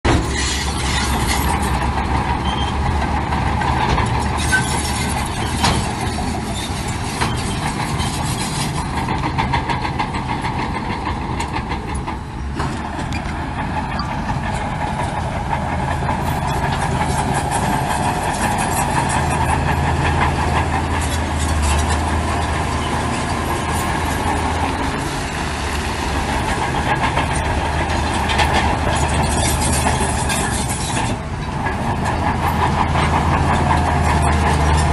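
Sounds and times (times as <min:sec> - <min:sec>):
diesel engine drone: 0:00.0 - 0:34.9.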